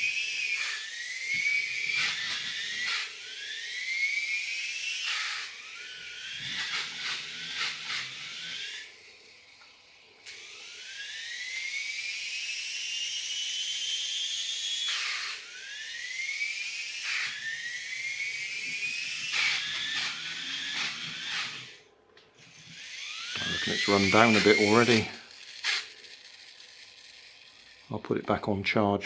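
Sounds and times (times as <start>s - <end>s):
toy electric motor whining: 0.0s - 28.4s.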